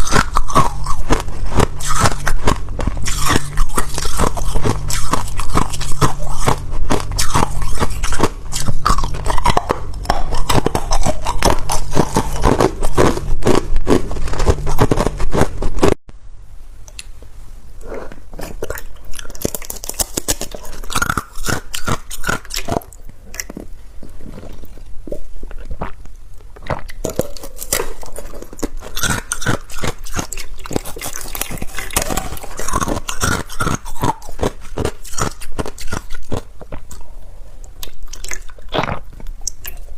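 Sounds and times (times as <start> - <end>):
ice being chewed: 0.0 - 16.0, 17.8 - 39.9.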